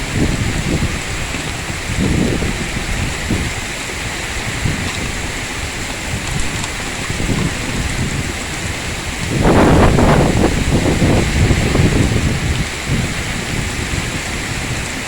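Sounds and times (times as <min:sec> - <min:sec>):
heavy rain hissing: 0:00.0 - 0:15.0
strong wind gusts rumbling: 0:00.0 - 0:15.0.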